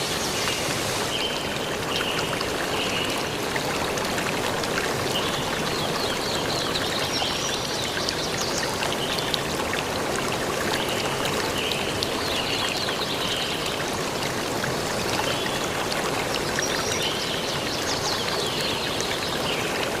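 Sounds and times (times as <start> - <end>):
water pouring over dam: 0.0 - 20.0.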